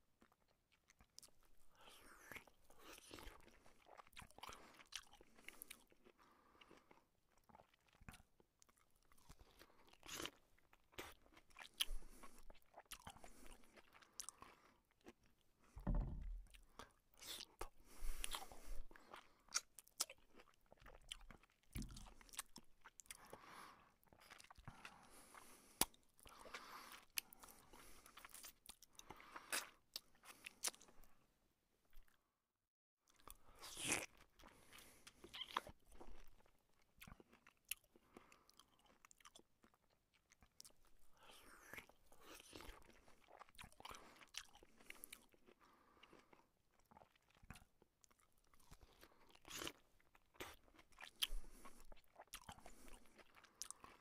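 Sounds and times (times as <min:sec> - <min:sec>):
person chewing food: 0:00.2 - 0:31.2, 0:33.0 - 0:54.0.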